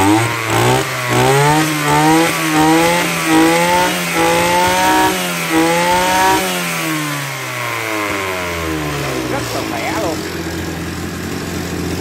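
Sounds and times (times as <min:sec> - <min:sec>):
brush cutter engine revving: 0:00.0 - 0:12.0.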